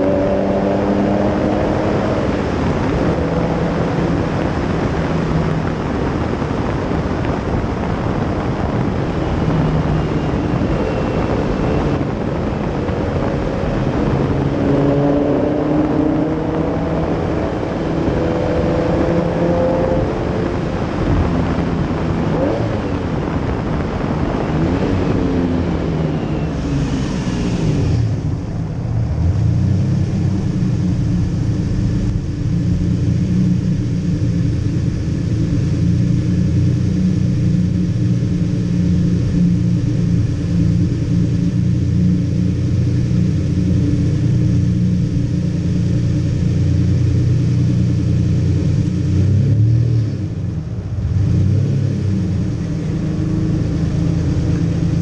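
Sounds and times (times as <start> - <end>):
car engine running: 0.0 - 55.0
road noise: 0.0 - 55.0
wind noise: 0.0 - 55.0.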